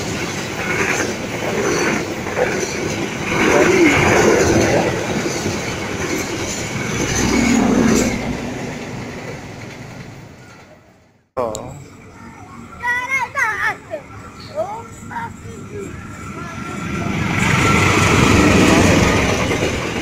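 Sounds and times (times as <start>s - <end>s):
train wheels rumbling on rails: 0.0s - 11.1s, 13.4s - 20.0s.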